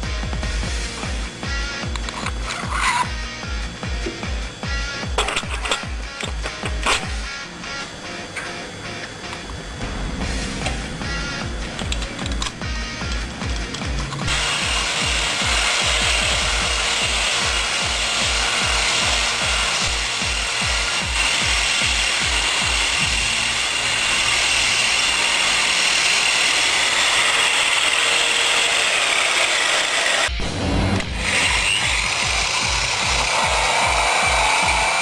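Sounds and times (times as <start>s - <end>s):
background music with low beat: 0.0s - 26.4s, 30.3s - 35.0s
angle grinder grinding: 0.8s - 35.0s.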